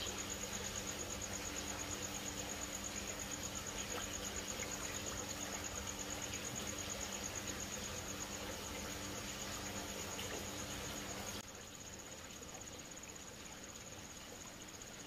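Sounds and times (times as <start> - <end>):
cricket chirping: 0.0 - 15.0
pump humming: 0.0 - 15.0.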